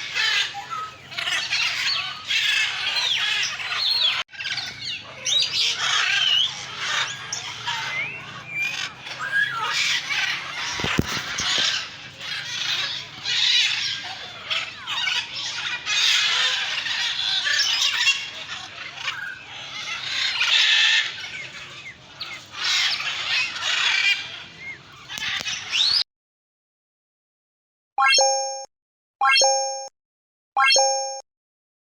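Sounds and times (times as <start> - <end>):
birds squawking harshly: 0.0 - 26.0.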